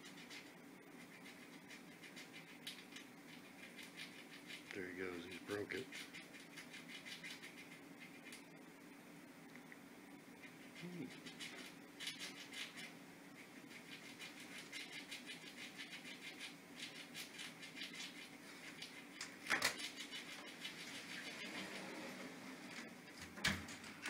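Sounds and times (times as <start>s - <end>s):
squirrel gnawing a nut: 0.0s - 8.7s, 9.4s - 21.8s
steady low hum: 0.0s - 24.0s.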